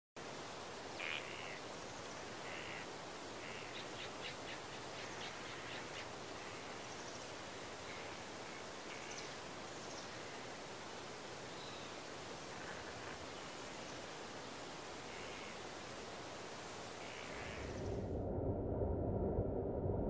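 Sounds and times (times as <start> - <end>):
steady outdoor hiss: 0.2 - 18.2
birds calling: 0.8 - 18.0.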